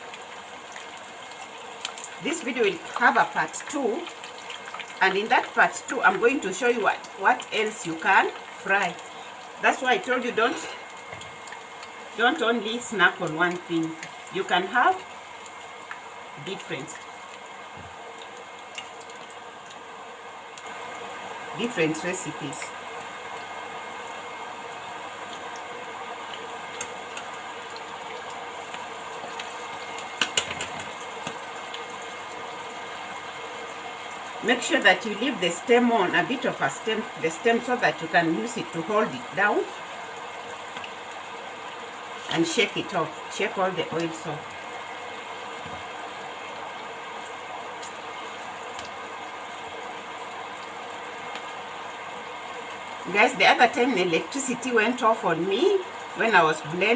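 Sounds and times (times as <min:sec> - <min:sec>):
leaves sizzling in hot oil: 0:00.0 - 0:56.9.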